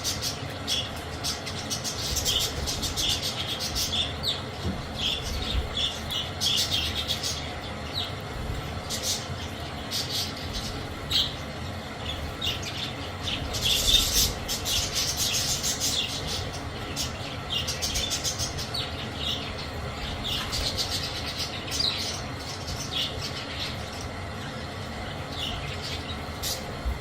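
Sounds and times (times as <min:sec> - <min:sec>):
budgerigars chattering: 0:00.0 - 0:08.2, 0:08.8 - 0:26.7.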